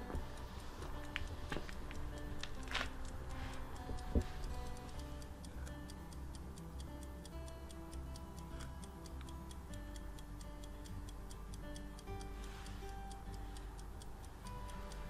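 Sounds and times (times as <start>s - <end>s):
clockwork drive ticking: 0.0s - 15.0s
soft background music: 0.0s - 15.0s.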